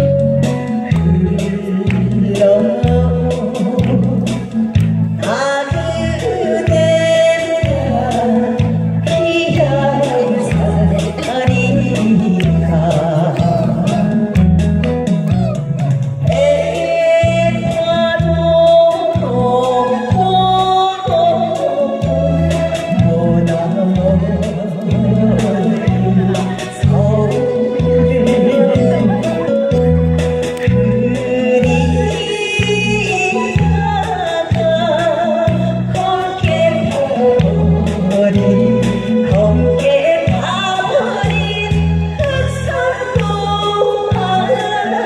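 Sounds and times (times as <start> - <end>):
backing band track with bass beat: 0.0 - 45.0
person singing: 0.0 - 45.0.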